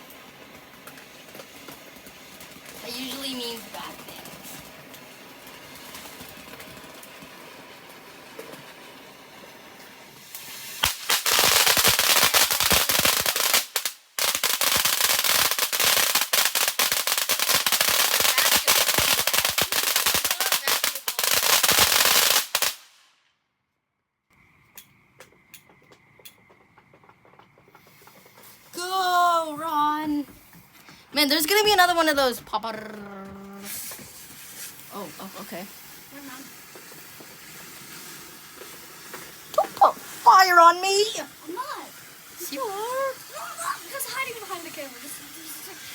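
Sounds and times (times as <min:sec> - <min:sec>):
firework crackling and popping: 0:00.0 - 0:23.3, 0:24.3 - 0:45.9
firework hissing: 0:00.0 - 0:23.3, 0:27.7 - 0:45.9.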